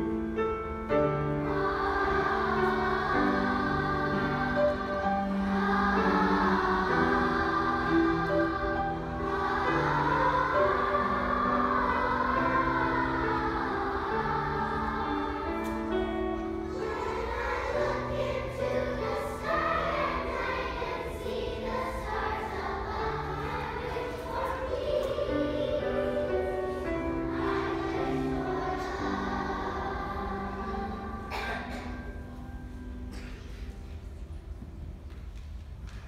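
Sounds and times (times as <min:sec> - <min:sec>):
children's choir singing: 0:00.0 - 0:36.0.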